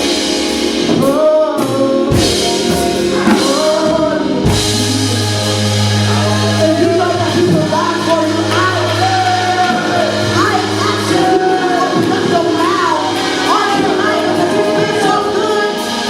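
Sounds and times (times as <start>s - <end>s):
band with drums: 0.0s - 16.0s
person singing: 0.0s - 16.0s.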